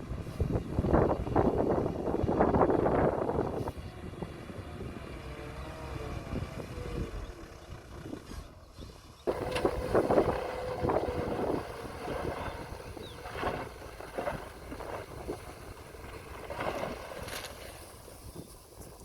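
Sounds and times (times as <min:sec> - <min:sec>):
earthmoving machinery engine rumble: 0:00.0 - 0:19.0
wind buffeting microphone: 0:00.0 - 0:19.0.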